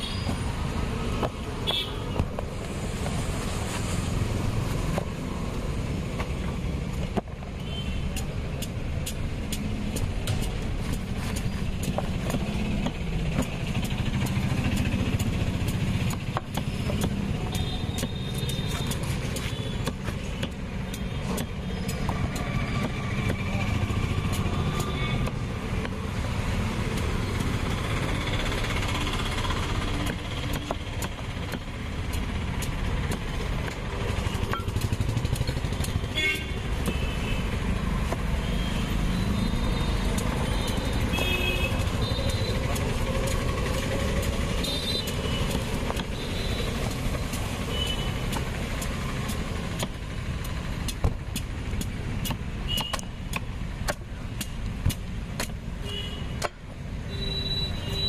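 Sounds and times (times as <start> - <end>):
motorcycle engines: 0.0 - 58.0
road traffic rumble: 0.0 - 58.0.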